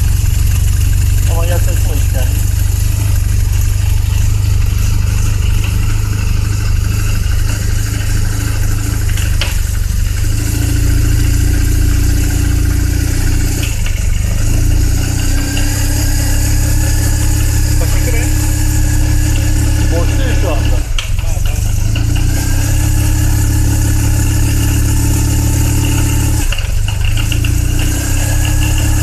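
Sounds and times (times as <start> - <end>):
car engine rumble: 0.0 - 29.0
transmission droning tone: 0.0 - 29.0.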